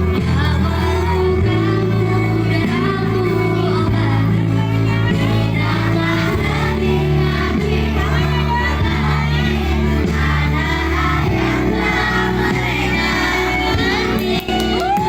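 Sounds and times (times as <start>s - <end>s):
child singing: 0.0s - 14.8s
music with held bass chords: 0.0s - 15.0s.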